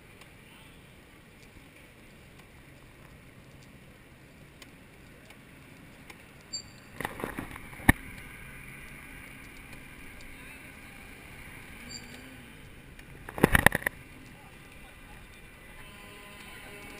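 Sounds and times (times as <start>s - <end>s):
bicycle tyres and wind rumble: 0.0s - 16.9s
bicycle rattles: 1.0s - 15.8s.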